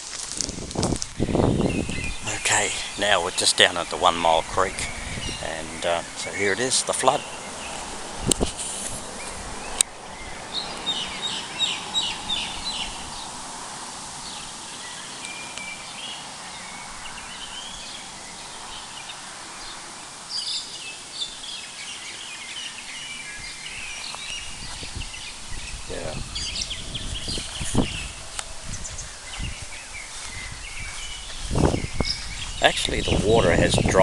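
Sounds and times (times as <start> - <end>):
birds chirping: 0.0 - 34.0
steady background hiss: 0.0 - 34.0.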